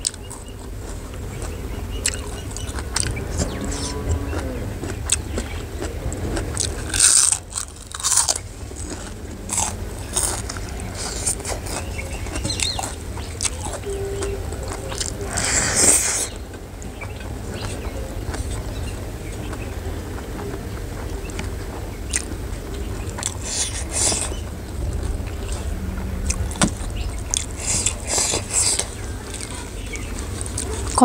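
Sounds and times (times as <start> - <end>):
chewing and crunching food: 0.0 - 31.0
low steady hum: 0.0 - 31.0.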